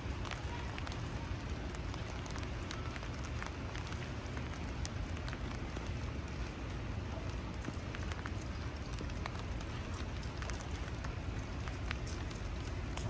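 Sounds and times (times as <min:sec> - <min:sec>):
rain on a hard surface: 0:00.0 - 0:13.0
raindrops ticking: 0:00.0 - 0:13.0.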